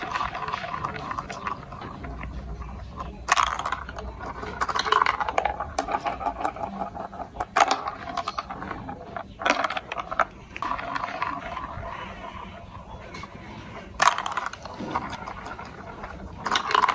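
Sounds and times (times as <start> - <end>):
plastic toy clicking and clattering: 0.0 - 16.9.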